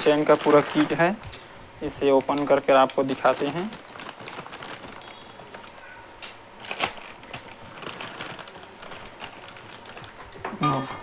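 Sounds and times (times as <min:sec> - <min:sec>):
plastic packaging crackling: 0:00.0 - 0:10.6.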